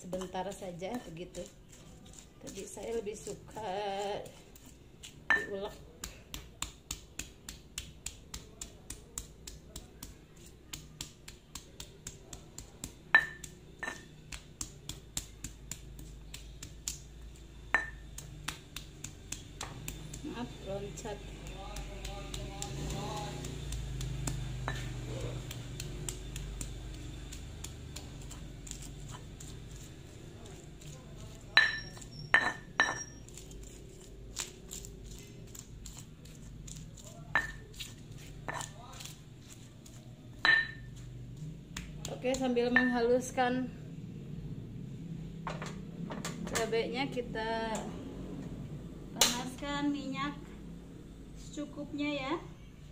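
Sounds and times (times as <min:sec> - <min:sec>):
stone pestle pounding in mortar: 0:00.0 - 0:43.4.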